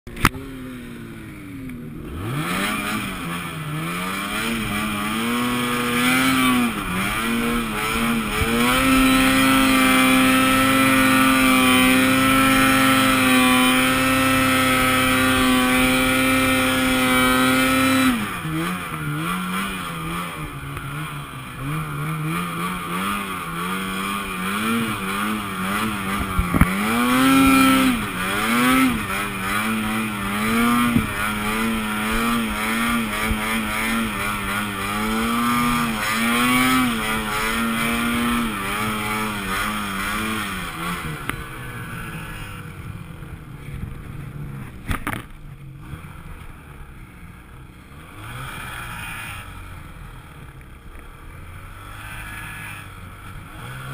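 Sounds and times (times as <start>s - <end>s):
snowmobile engine revving: 0.1s - 53.9s.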